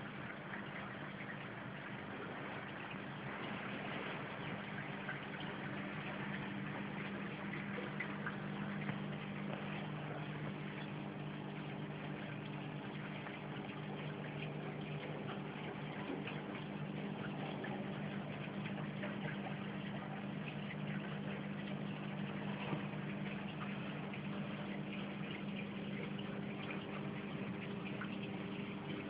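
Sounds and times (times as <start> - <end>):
aquarium pump hum: 0.0 - 29.0
water trickling: 0.0 - 29.0.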